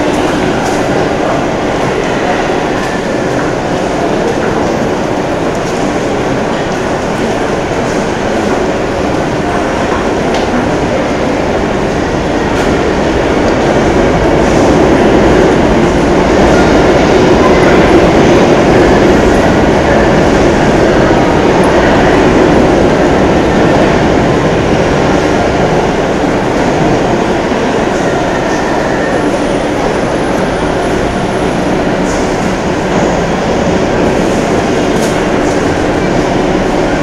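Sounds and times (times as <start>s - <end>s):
loud rumbling city noise: 0.0s - 37.0s.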